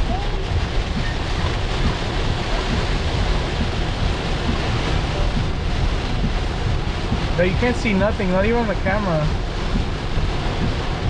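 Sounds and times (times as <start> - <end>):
heavy rain on a car roof: 0.0 - 11.0.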